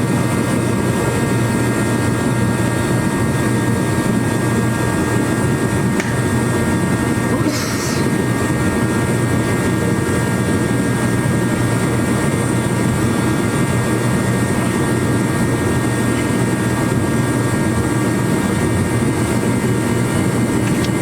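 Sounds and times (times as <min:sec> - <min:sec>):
quad engine running steadily: 0:00.0 - 0:21.0.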